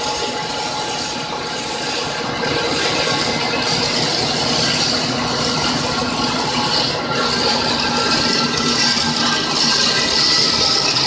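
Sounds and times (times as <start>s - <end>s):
machine hissing with whining tones: 0.0s - 11.0s.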